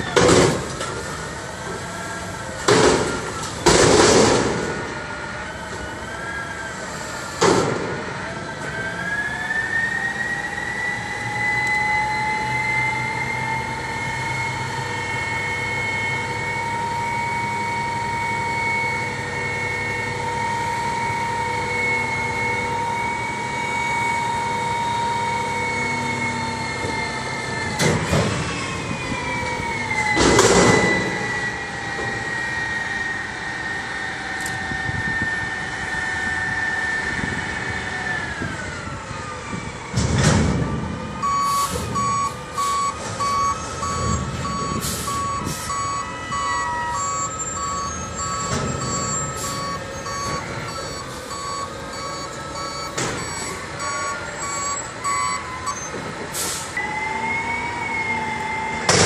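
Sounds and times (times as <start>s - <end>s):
hydraulic whine: 0.0s - 59.0s.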